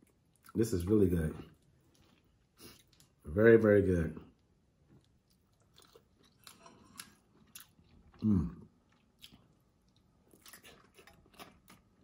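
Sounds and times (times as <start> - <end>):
chewing and wet mouth sounds: 0.0 - 3.3, 4.2 - 12.0.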